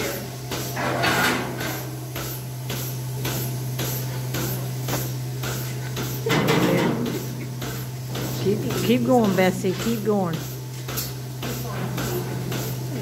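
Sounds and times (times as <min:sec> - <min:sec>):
milking pulsators hissing and clicking: 0:00.0 - 0:13.0
vacuum system humming: 0:00.0 - 0:13.0.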